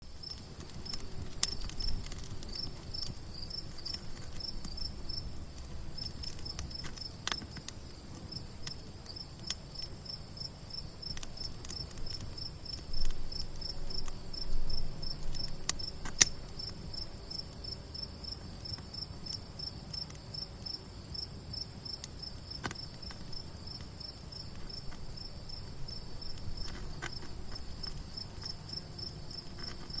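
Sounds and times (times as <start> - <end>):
campfire crackling and popping: 0.0 - 30.0
crickets chirping: 0.0 - 30.0
high insect trill: 0.1 - 30.0.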